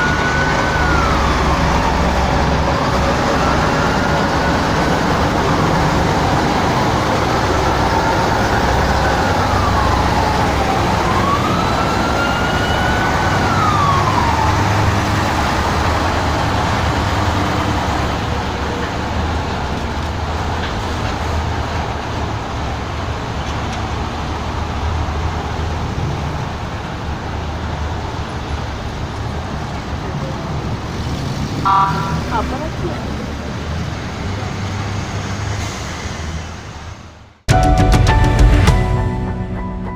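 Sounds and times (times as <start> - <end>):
emergency vehicle siren: 0.0 - 35.8
heavy vehicles rumbling: 0.0 - 39.9.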